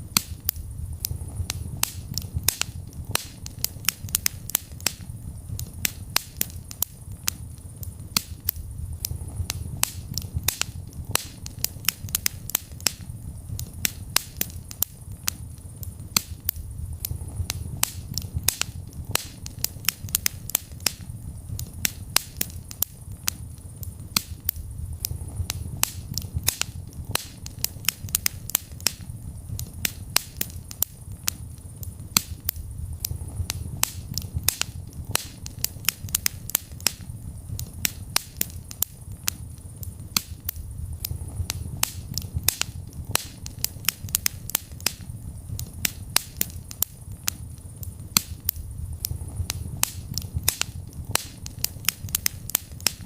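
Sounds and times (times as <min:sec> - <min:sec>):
low rumble of flames: 0:00.0 - 0:53.0
wood fire crackling: 0:00.0 - 0:53.0.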